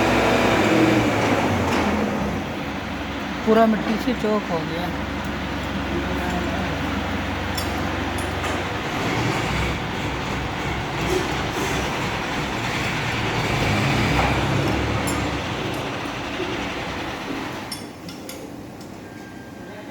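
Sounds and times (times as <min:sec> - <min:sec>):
air compressor running: 0:00.0 - 0:17.8.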